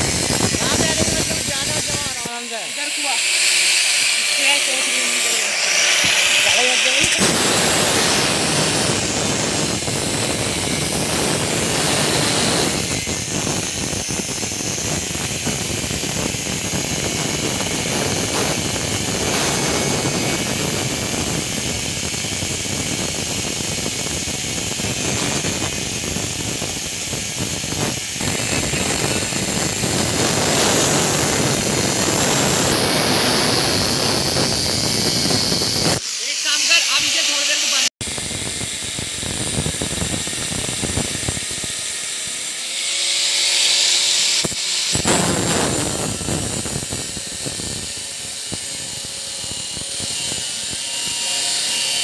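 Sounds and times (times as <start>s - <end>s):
angle grinder cutting metal: 0.0s - 52.0s.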